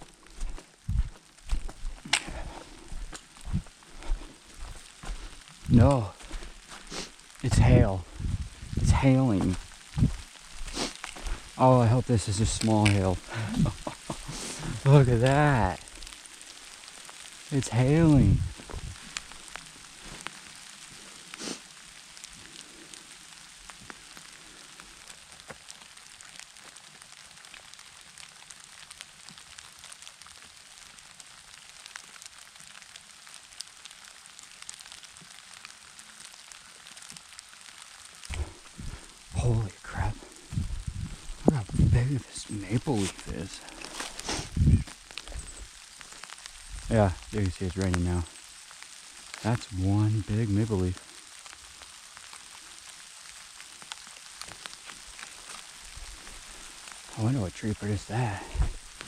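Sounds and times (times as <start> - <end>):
hail and rain falling: 0.0 - 59.0.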